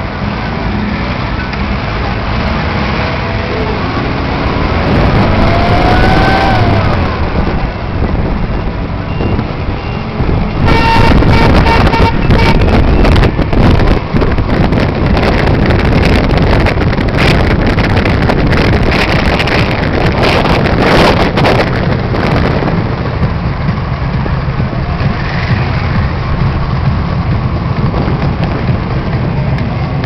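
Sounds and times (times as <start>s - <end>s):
motor vehicle running: 0.0s - 30.0s
wind buffeting microphone: 2.1s - 30.0s.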